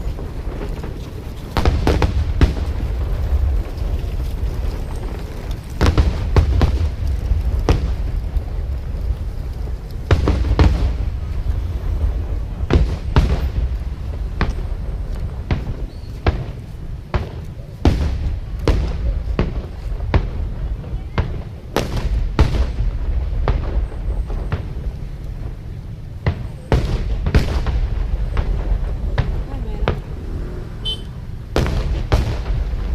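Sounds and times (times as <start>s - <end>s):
fireworks bangs and cracks: 0.0s - 32.9s
low rumble of booms: 0.0s - 32.9s.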